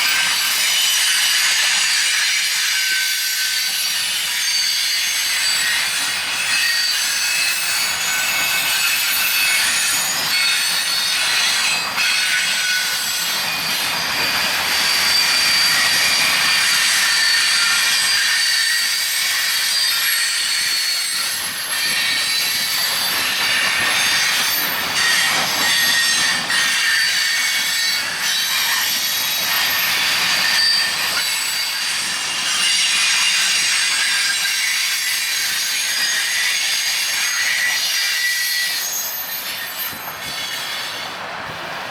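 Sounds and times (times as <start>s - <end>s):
train rolling noise: 0.0s - 41.9s
train wheels squealing on rails: 0.0s - 41.9s.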